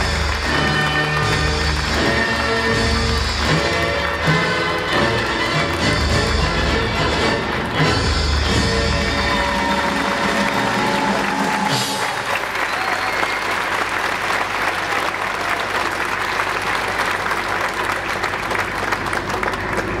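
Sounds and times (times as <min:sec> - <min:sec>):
audience applause: 0:00.0 - 0:20.0
circus music: 0:00.0 - 0:20.0.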